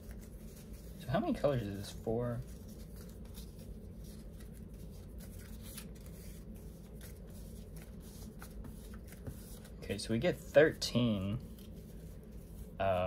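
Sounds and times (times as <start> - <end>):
sticker sheets rustling: 0.0 - 12.8.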